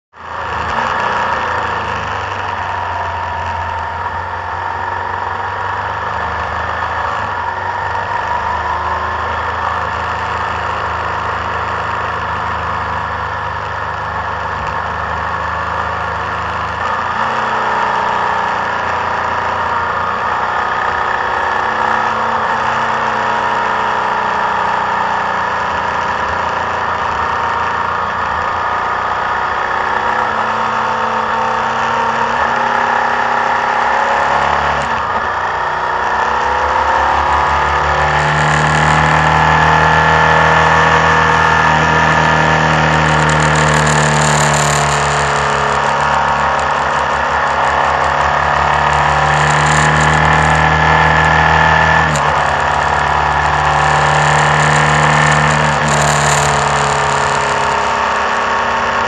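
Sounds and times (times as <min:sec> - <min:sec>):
motorcycle engine running: 0:00.1 - 0:59.0
road noise: 0:00.1 - 0:59.0.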